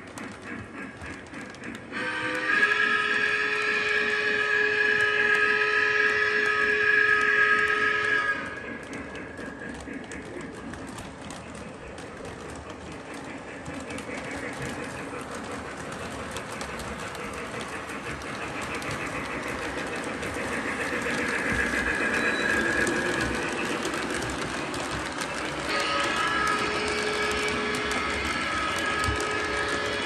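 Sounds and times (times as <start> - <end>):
model train rolling rumble: 0.0 - 30.0
wheels clicking over rails: 0.0 - 30.0.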